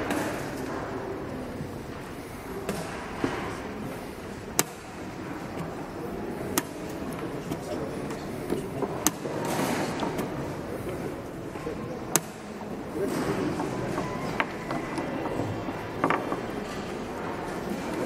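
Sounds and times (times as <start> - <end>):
room noise: 0.0 - 18.0.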